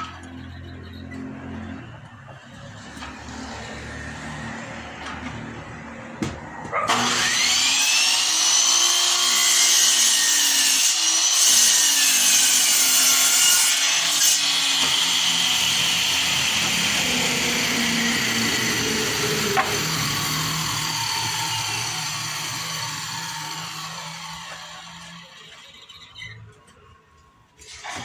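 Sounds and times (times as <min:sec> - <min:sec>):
miter saw cutting wood: 0:01.1 - 0:26.4.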